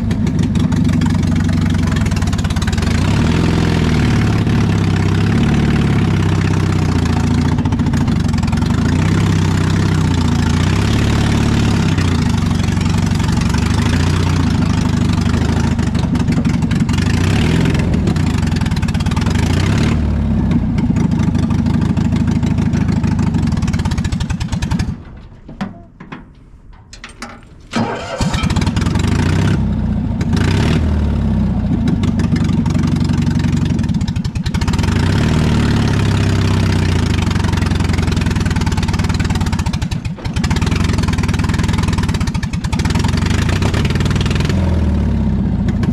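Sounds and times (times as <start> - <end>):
old vehicle engine running on choke: 0.0 - 25.5, 26.6 - 45.9.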